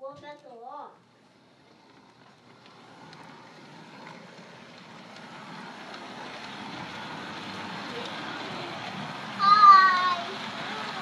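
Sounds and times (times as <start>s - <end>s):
toy train running on track: 1.1s - 11.0s.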